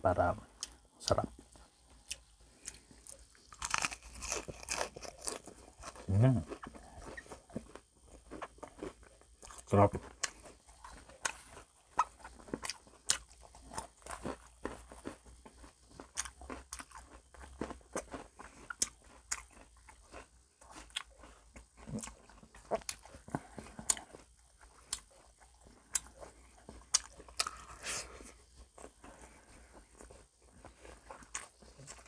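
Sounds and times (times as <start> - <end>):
crunching and chewing fried food: 0.5 - 32.0.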